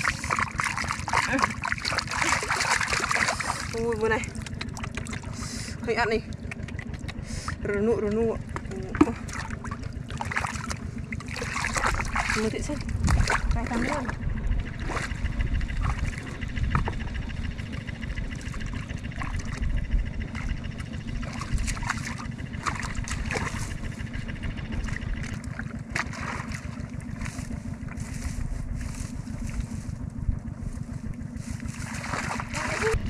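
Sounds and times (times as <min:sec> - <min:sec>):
water splashes: 0:00.0 - 0:17.0, 0:17.7 - 0:28.0, 0:31.6 - 0:33.0
low motor drone: 0:00.0 - 0:33.0.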